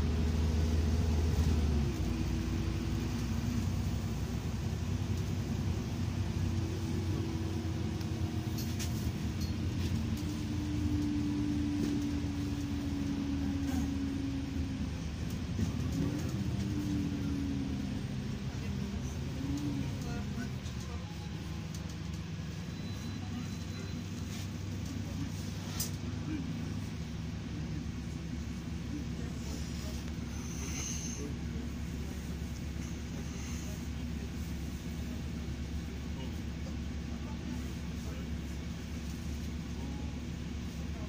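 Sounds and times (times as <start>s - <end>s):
bus engine and road rumble: 0.0s - 41.0s.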